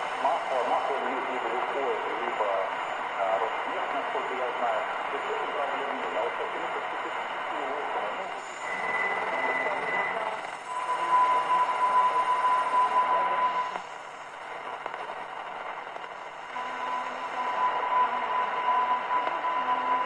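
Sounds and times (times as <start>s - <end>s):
radio static and hiss: 0.0s - 20.0s
steady high radio whistle: 0.0s - 20.0s.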